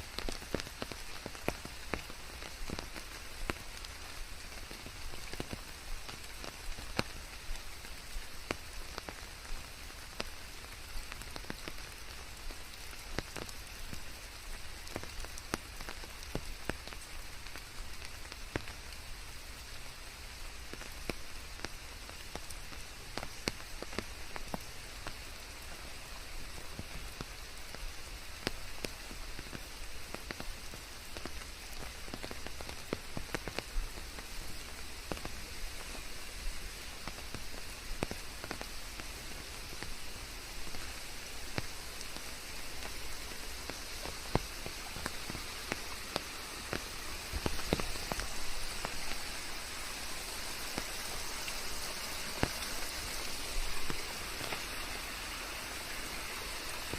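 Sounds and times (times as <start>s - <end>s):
rain falling: 0.0s - 56.9s
raindrops tapping: 0.0s - 56.9s
white noise: 0.0s - 56.9s.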